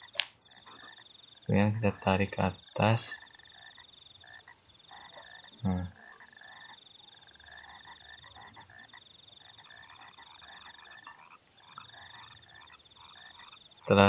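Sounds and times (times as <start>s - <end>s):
frogs calling: 0.0s - 14.0s.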